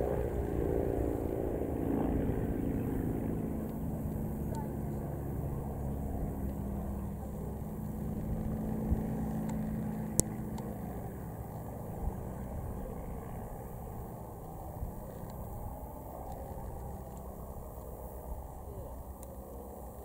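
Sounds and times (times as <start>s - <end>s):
distant aircraft engines droning: 0.0s - 20.0s.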